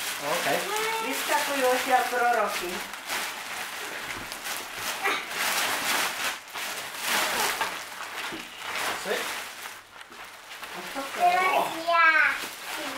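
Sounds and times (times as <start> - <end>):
plastic and paper wrapping crinkling: 0.0 - 12.9.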